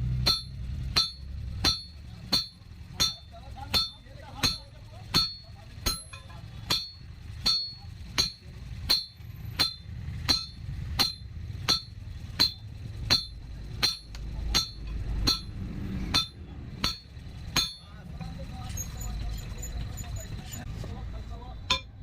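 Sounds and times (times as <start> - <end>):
hammer striking steel on anvil: 0.0 - 18.0, 21.6 - 22.0.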